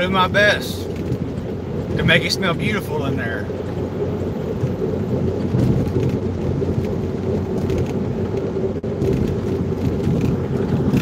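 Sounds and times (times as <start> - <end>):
vehicle road and engine noise: 0.0 - 11.0.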